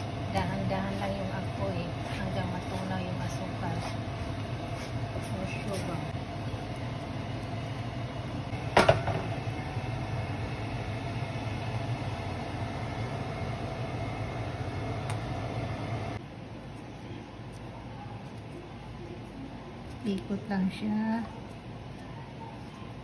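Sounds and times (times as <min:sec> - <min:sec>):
kitchen hum and hiss: 0:00.0 - 0:23.0.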